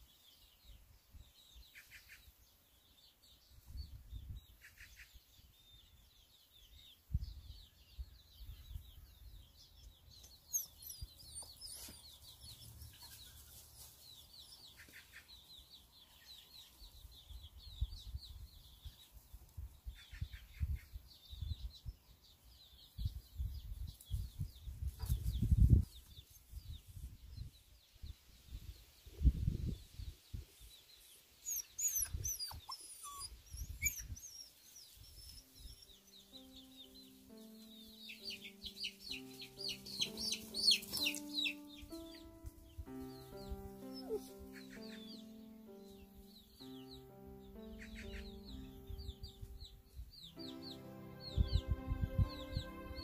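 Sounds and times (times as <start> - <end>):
small wild birds chirping: 0.0 - 29.2, 29.8 - 51.6.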